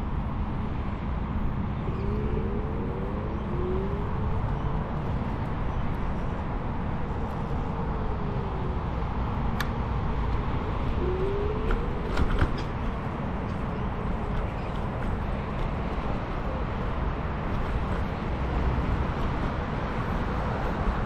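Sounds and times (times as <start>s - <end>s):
faint whine: 0.0s - 21.0s.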